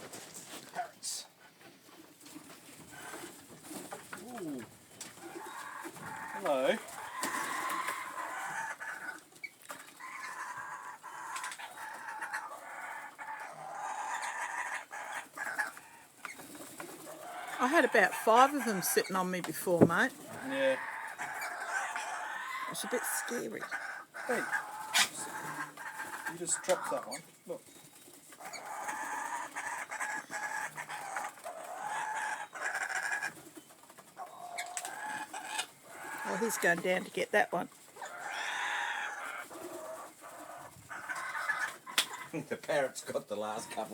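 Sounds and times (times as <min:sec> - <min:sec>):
birds calling and chattering: 0:00.2 - 0:43.9.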